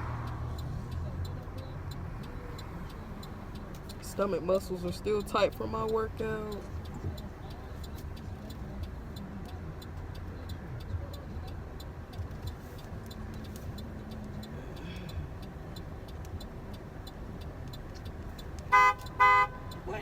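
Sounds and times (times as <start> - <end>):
car driving rumble: 0.0 - 20.0
turn signal ticking: 0.0 - 20.0.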